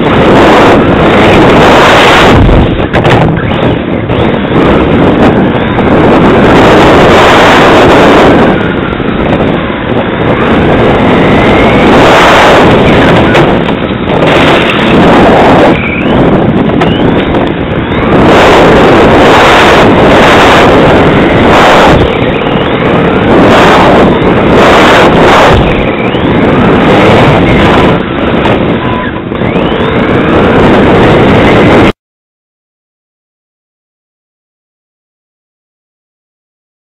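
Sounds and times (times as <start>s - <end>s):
tyre noise on asphalt: 0.0s - 31.9s.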